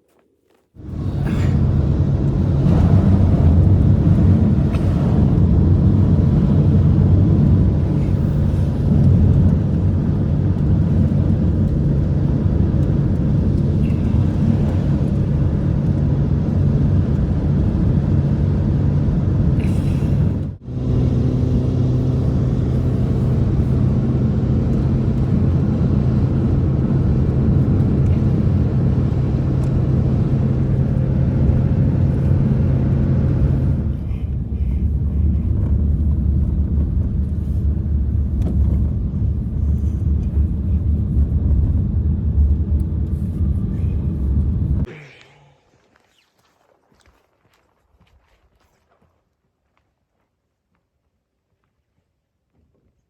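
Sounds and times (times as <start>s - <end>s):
loud steady low rumble: 0.8s - 45.0s.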